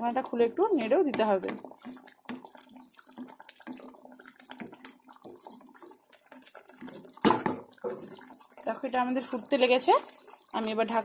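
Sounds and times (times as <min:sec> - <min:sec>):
gravy bubbling in a pan: 0:00.0 - 0:11.0.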